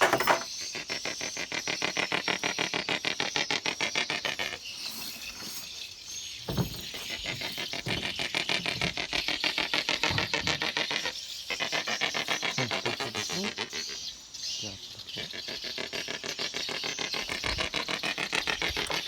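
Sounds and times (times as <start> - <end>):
stork clattering its bill: 0.0 - 13.9, 15.3 - 19.0.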